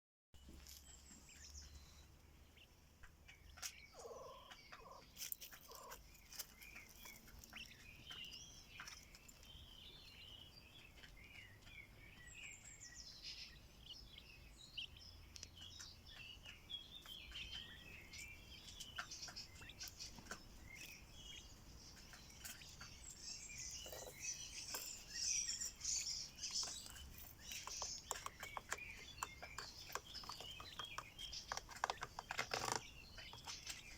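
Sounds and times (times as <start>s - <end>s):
quails chirping: 0.6s - 33.9s.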